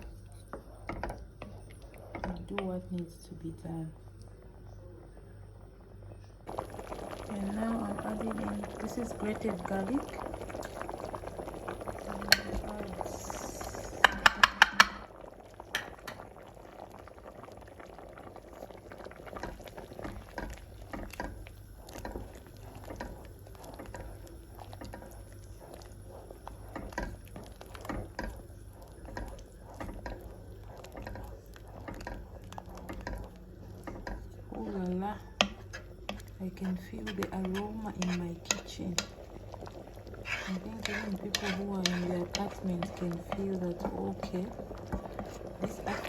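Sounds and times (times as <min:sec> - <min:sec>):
soup boiling in a pot: 0:00.0 - 0:46.0.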